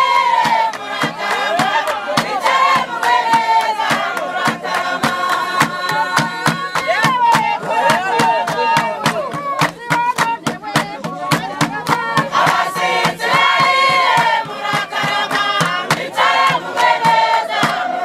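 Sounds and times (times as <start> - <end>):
group of voices singing: 0.0 - 18.0
quick drum beat: 0.0 - 18.0.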